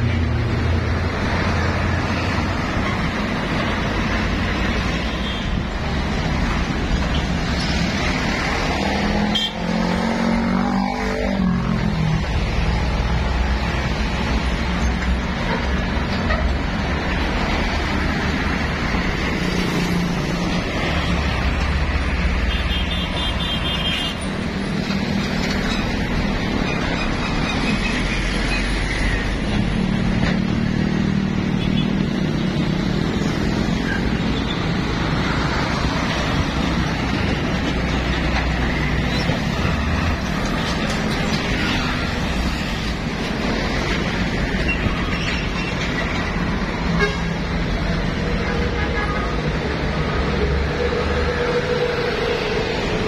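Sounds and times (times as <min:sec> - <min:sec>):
trucks passing: 0:00.0 - 0:53.0.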